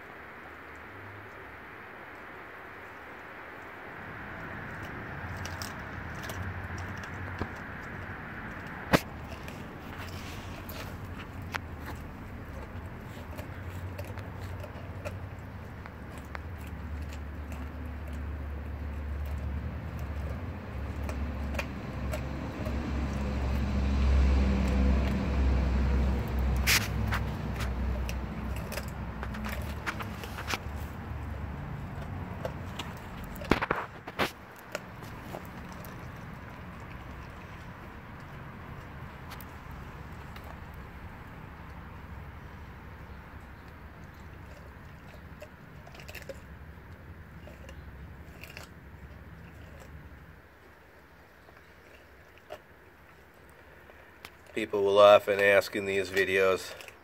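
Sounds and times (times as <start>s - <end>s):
dog chewing with crunches: 0.1s - 57.0s.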